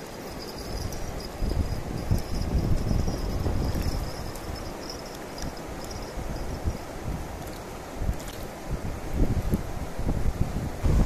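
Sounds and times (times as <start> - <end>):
river water rushing over stones: 0.0 - 9.2
wind buffeting microphone: 0.3 - 11.0.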